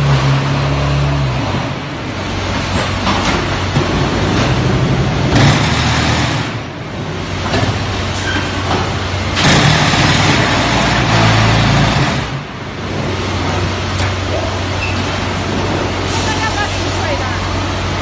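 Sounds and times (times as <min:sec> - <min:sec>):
loud rattling machine noise: 0:00.0 - 0:18.0.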